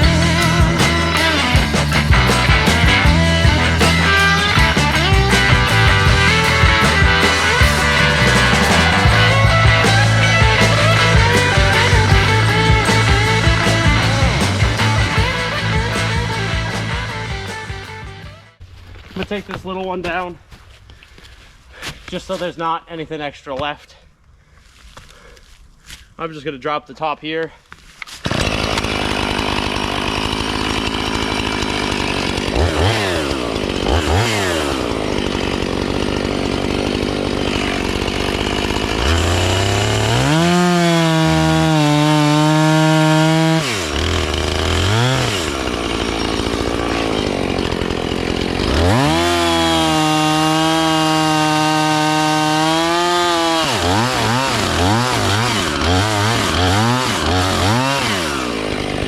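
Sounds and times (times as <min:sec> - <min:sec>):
chainsaw cutting wood: 0:00.0 - 0:18.6, 0:28.0 - 0:59.0
chainsaw idling and revving: 0:00.0 - 0:18.6, 0:28.2 - 0:59.0.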